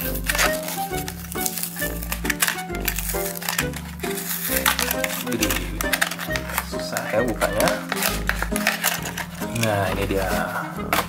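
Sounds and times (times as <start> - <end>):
background music: 0.0 - 11.0
cardboard and plastic packaging tearing: 0.0 - 11.0.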